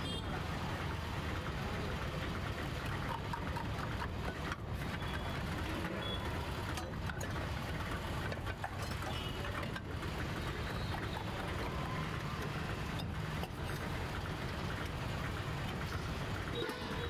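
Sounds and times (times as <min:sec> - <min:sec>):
busy street traffic rumble: 0:00.0 - 0:17.0.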